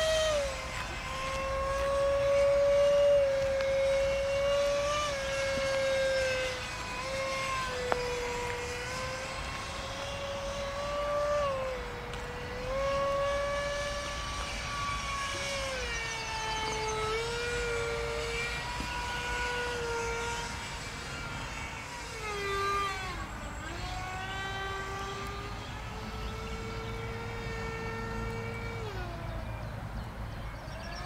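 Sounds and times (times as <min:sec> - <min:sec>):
model plane motor whine: 0:00.0 - 0:31.0.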